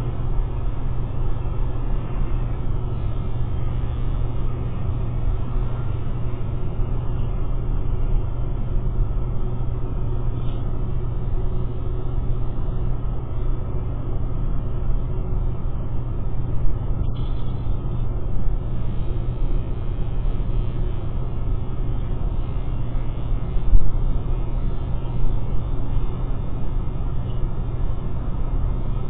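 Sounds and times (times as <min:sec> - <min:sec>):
constant hum: 0:00.0 - 0:29.0.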